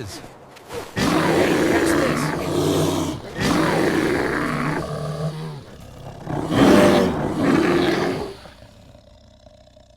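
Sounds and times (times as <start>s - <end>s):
large animal roaring: 1.0s - 9.9s.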